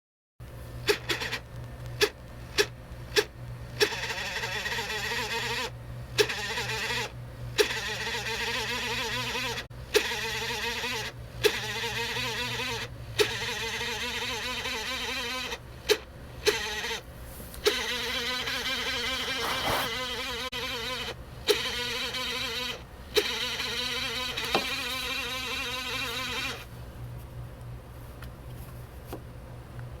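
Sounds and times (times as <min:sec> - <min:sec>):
laptop fan whining: 0:00.6 - 0:30.0.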